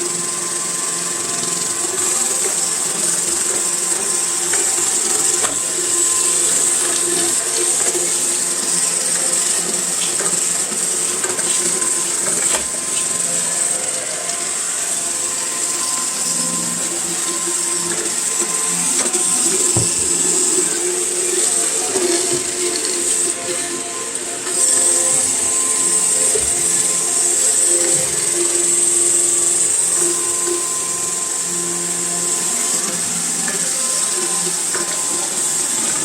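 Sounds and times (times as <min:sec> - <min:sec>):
robot vacuum fan whine: 0:00.0 - 0:36.0.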